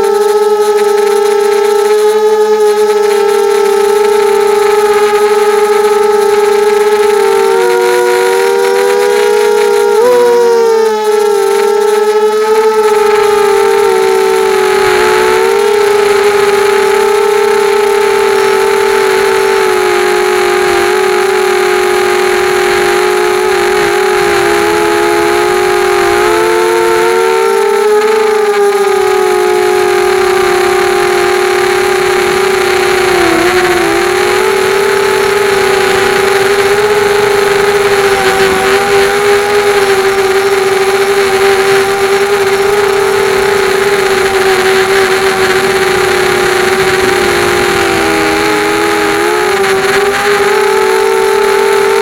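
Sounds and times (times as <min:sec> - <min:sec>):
drone motors whining: 0:00.0 - 0:52.0.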